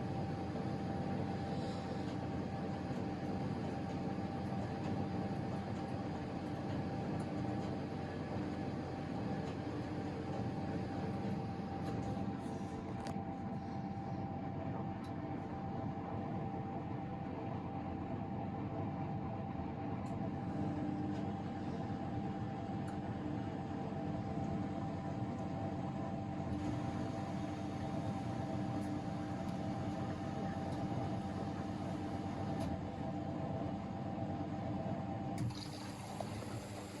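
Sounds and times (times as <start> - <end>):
washing machine motor whine: 0.0 - 37.0.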